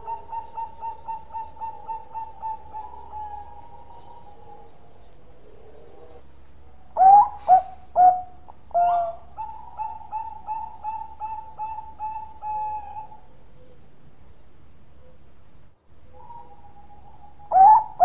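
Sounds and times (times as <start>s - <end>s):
dove cooing: 0.0s - 13.9s, 16.1s - 18.0s.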